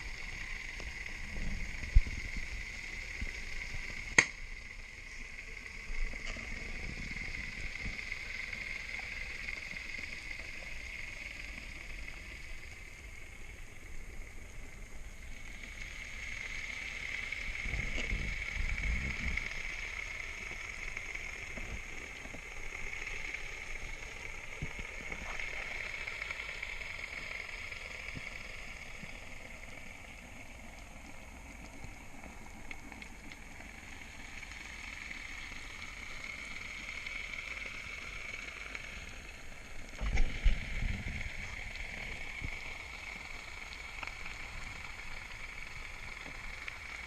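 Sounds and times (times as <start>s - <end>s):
low rumble of water: 0.0s - 47.0s
underwater hiss: 0.0s - 47.0s
faint clicks: 5.3s - 47.0s.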